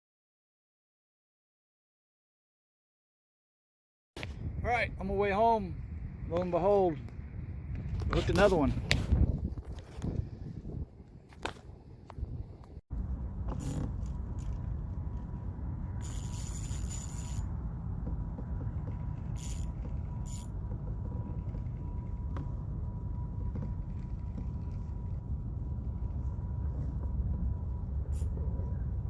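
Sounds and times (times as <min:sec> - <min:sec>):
wind buffeting microphone: 0:04.2 - 0:29.0.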